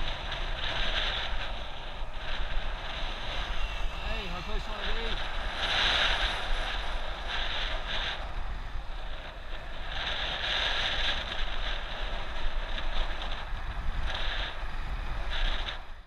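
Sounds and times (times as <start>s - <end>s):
steady low rumble: 0.0s - 16.0s
wind rushing over microphone: 0.0s - 16.0s.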